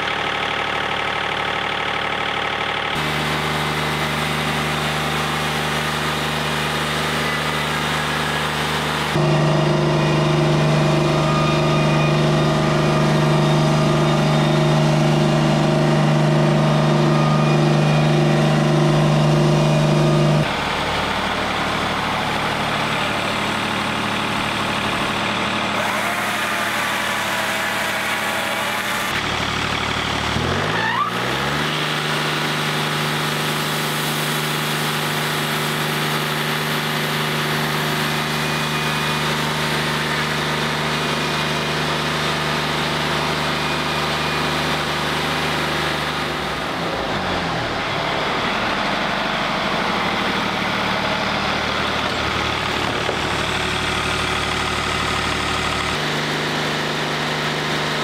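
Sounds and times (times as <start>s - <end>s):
sawmill engine drone: 0.0s - 58.0s
falling whine: 3.0s - 54.6s
chainsaw revving: 3.0s - 58.0s.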